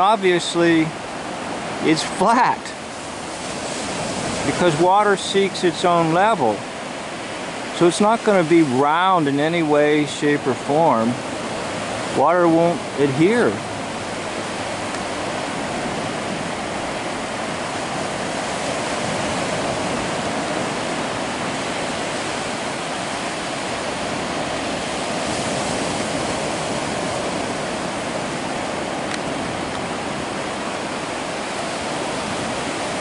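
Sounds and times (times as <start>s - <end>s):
ocean surf on beach: 0.0s - 33.0s.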